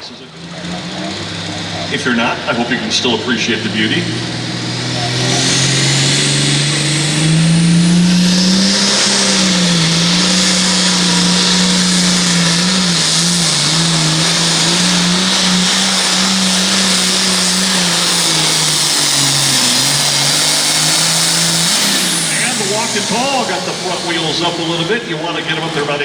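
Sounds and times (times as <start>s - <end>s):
tractor diesel engine under load: 0.0s - 26.0s
heavy rushing hiss: 4.6s - 26.0s.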